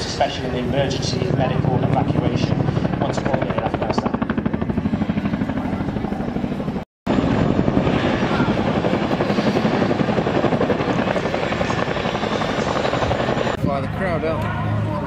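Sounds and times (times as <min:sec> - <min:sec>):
helicopter rotors thudding: 0:00.0 - 0:13.6.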